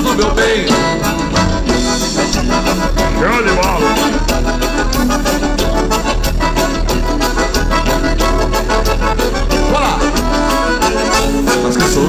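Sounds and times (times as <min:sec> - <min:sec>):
dance music: 0:00.0 - 0:12.0
organ-like keyboard chords: 0:00.0 - 0:12.0
steady beat: 0:00.0 - 0:12.0.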